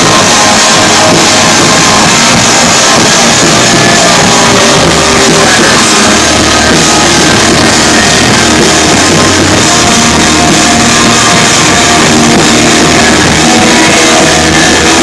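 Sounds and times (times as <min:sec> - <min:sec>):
loud rock band: 0:00.0 - 0:15.0.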